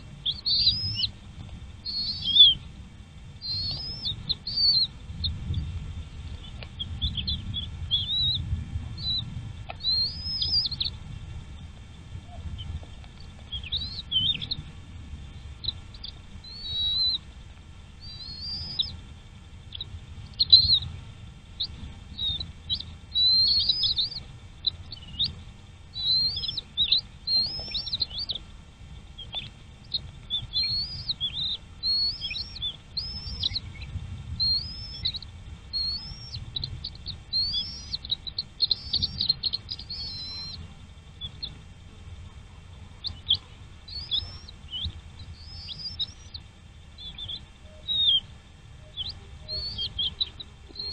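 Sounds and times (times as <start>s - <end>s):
low rumble: 0.0s - 50.9s
small birds chirping: 0.0s - 50.9s.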